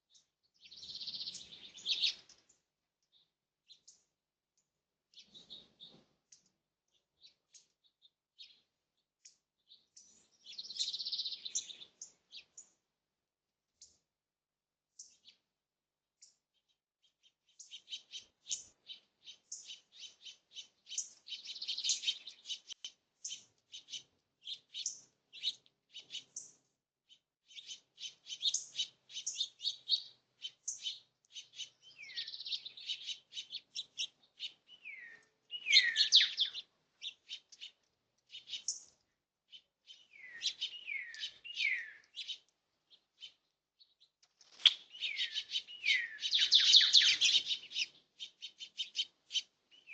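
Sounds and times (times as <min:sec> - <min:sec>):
small birds chirping: 0:00.0 - 0:13.0, 0:13.7 - 0:14.1, 0:14.9 - 0:49.9.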